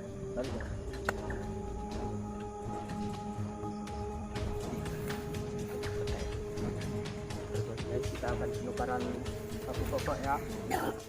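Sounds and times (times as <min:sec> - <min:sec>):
sustained drone tones: 0:00.0 - 0:11.0.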